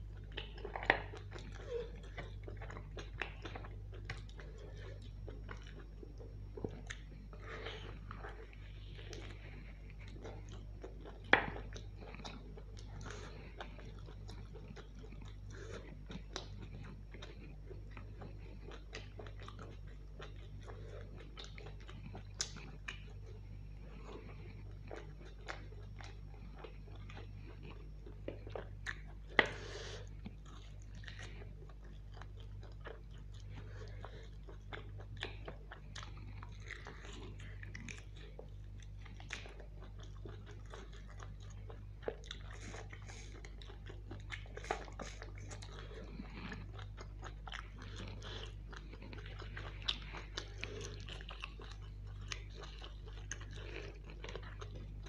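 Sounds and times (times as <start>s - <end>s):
chewing and gnawing bones: 0.0s - 55.0s
steady low hum: 0.0s - 55.0s.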